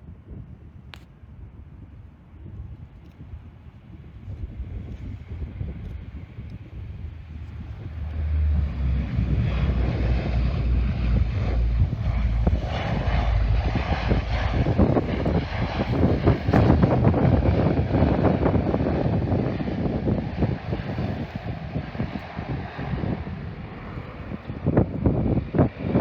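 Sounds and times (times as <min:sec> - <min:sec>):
airliner engines passing overhead: 0:00.0 - 0:26.0.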